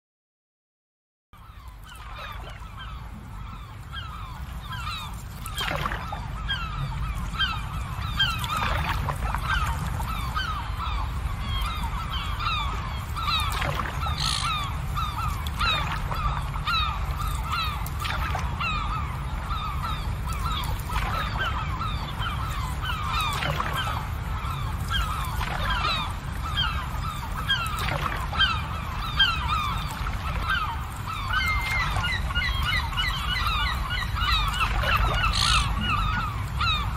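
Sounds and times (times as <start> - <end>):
birds honking: 1.5 - 36.9.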